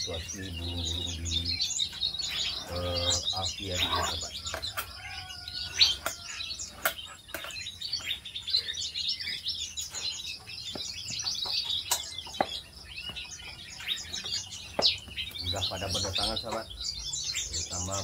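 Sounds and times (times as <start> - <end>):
small birds chirping and twittering: 0.0 - 18.0.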